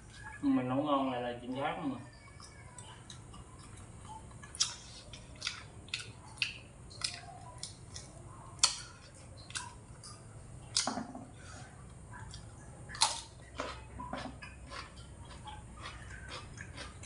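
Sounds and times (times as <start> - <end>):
chewing crisp ribs: 1.6 - 17.0.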